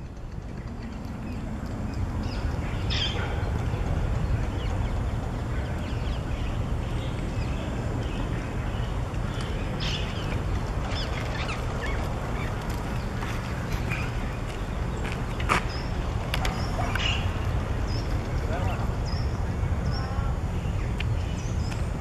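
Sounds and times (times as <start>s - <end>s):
birds calling: 0.5s - 21.9s.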